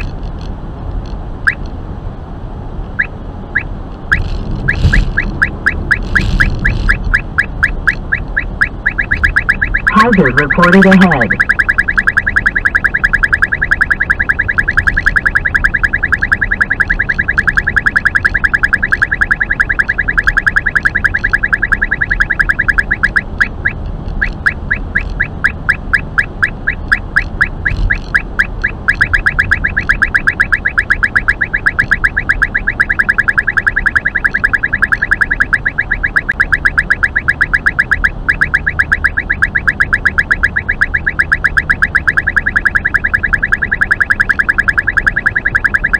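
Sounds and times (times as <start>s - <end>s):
radar detector beeping: 1.4s - 1.6s, 3.0s - 45.9s.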